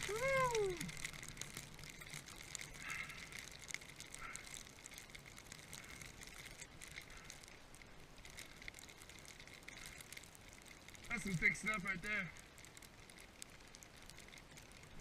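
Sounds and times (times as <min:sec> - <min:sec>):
snow hissing and crackling: 0:00.0 - 0:15.0.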